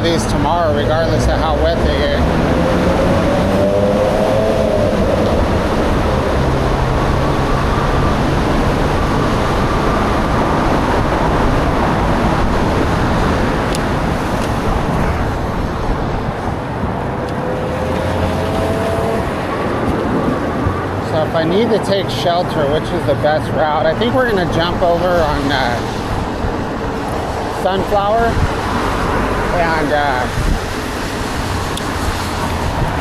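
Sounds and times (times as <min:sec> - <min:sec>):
wind on microphone: 0:00.0 - 0:21.2, 0:24.5 - 0:33.0
wet road noise: 0:00.0 - 0:33.0.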